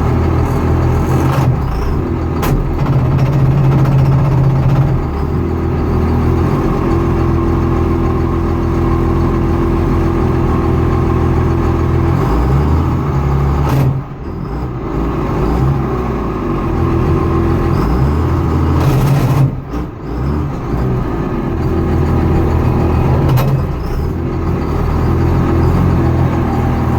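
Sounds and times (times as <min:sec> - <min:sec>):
vehicle engine grinding: 0:00.0 - 0:26.9.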